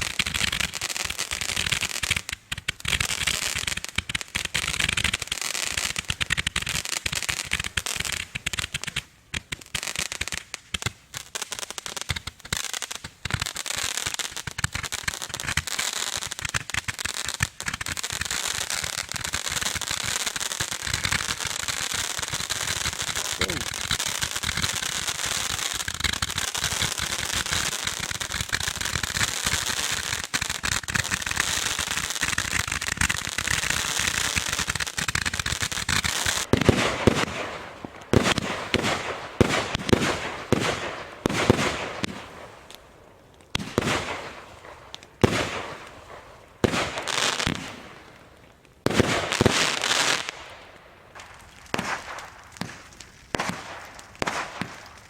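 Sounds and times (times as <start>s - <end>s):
fireworks bangs: 0.0s - 55.0s
fireworks crackling: 0.0s - 55.0s.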